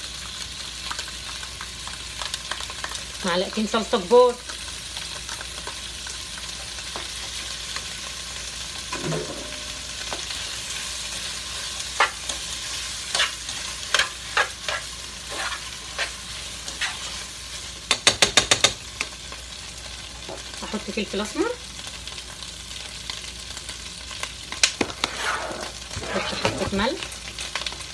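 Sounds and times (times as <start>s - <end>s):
vegetables sizzling in a pot: 0.0s - 27.9s.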